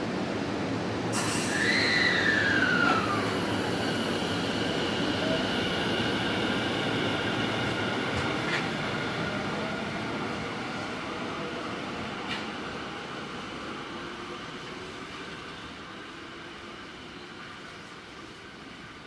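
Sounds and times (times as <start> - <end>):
train rail noise: 0.0 - 19.0
train whining and squealing: 1.0 - 18.9.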